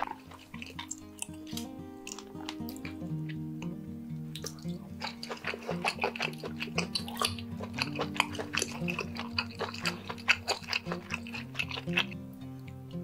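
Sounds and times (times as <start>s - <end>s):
wet chewing and smacking: 0.0s - 12.9s
quiet background music: 0.0s - 13.0s.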